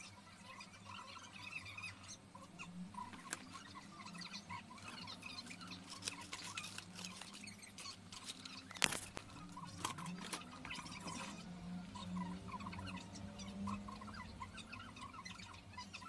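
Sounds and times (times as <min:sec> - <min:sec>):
faint squeaky chirps: 0:00.0 - 0:16.0.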